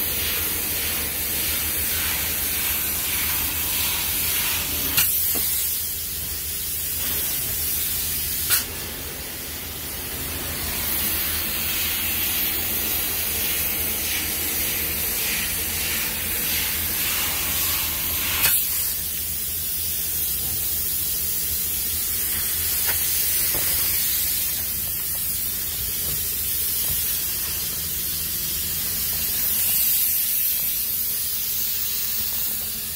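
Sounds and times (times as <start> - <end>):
spray foam gun hissing: 0.0 - 32.9.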